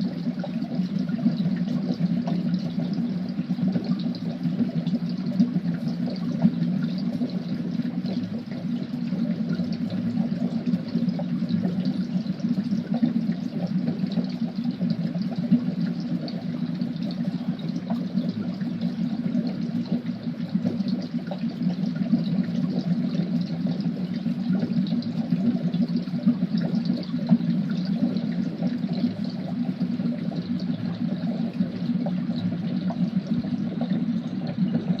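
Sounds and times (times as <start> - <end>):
thick liquid bubbling in cauldron: 0.0 - 35.0.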